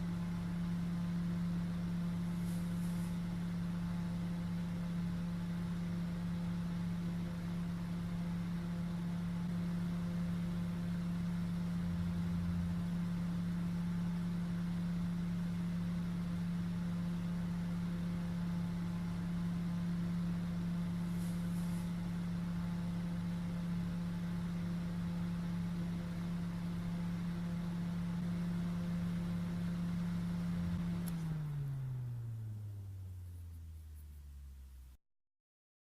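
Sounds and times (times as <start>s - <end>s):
electric fan humming: 0.0s - 35.0s
mains hum: 0.0s - 35.0s.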